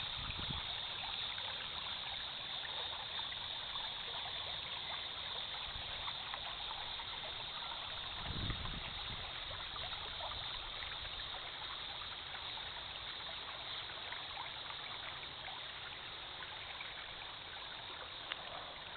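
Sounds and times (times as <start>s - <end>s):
stream trickling over rocks: 0.0s - 18.9s.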